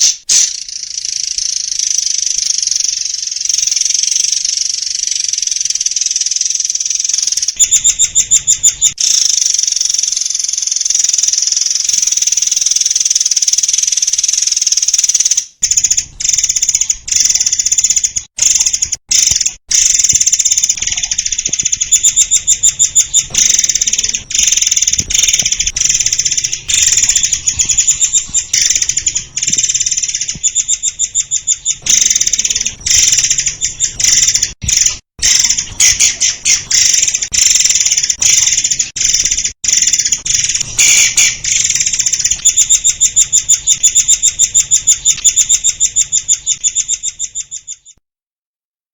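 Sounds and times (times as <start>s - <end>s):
bird singing in rapid trills: 0.0s - 48.0s.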